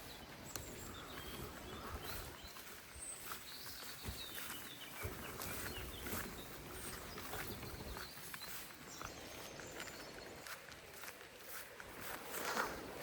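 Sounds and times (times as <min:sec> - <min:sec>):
faint footsteps or rustles: 0:00.0 - 0:13.0
small birds chirping: 0:00.0 - 0:13.0.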